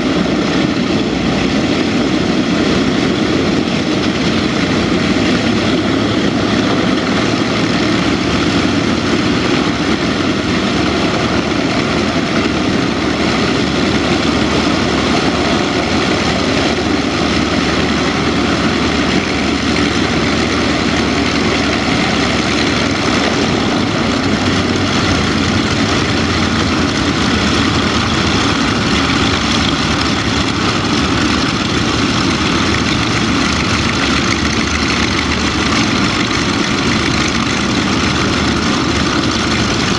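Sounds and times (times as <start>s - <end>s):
propeller engines droning: 0.0s - 39.9s.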